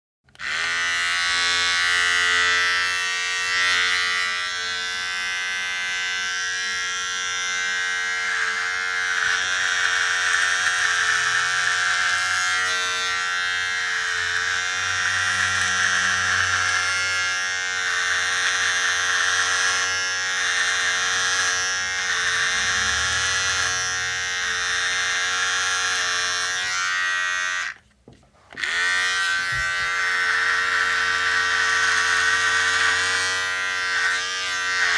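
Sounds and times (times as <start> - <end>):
electric razor buzzing: 0.3 - 27.8, 28.5 - 34.9.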